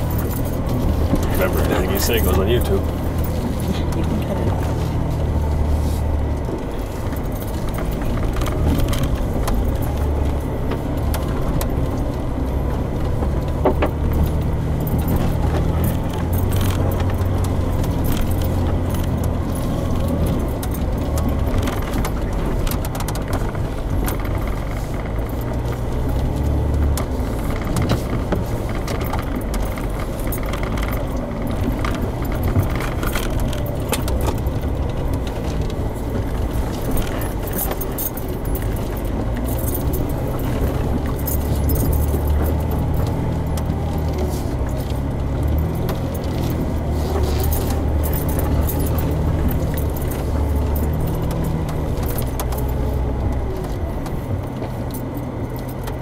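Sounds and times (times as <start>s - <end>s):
rattles and clinks of loose things: 0.0s - 56.0s
truck engine running at low speed: 0.0s - 56.0s.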